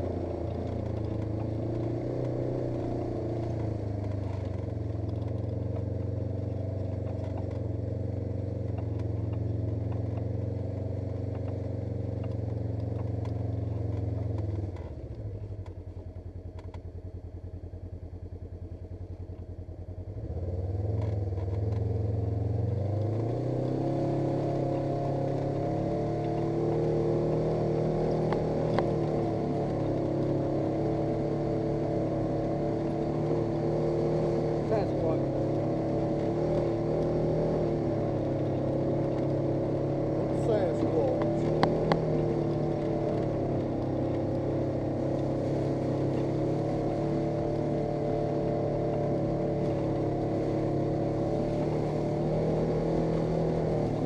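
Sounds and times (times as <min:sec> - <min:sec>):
side-by-side engine running: 0:00.0 - 0:54.0.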